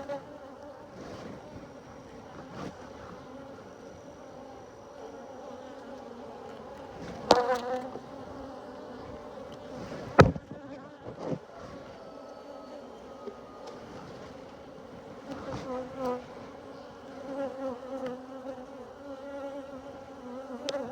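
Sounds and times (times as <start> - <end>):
honeybees buzzing: 0.0 - 20.9.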